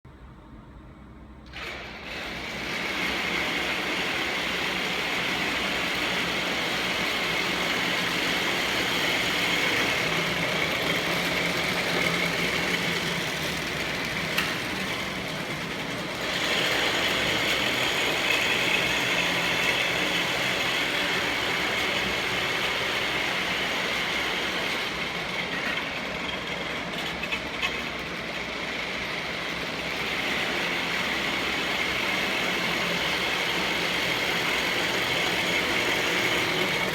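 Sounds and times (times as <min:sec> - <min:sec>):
machine motor whirring with high whine: 0:01.3 - 0:36.9.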